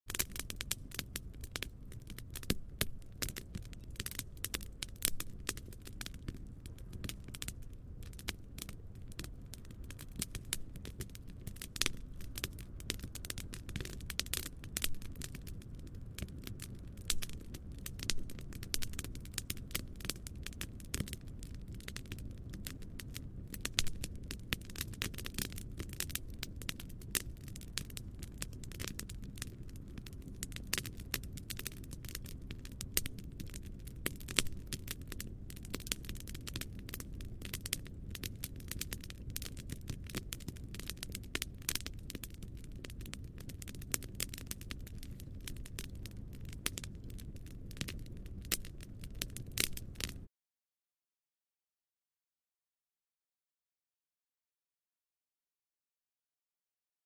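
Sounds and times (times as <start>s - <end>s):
campfire crackling and snapping: 0.1s - 50.3s.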